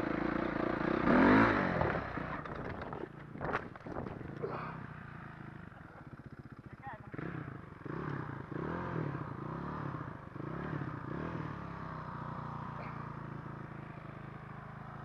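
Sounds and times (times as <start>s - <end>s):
dirt bike engine revving: 0.0s - 2.9s, 4.0s - 14.7s.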